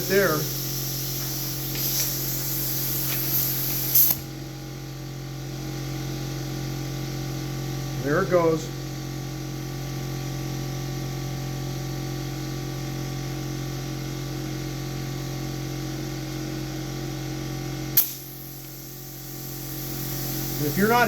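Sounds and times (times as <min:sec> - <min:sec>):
air compressor motor humming: 0:00.0 - 0:21.0.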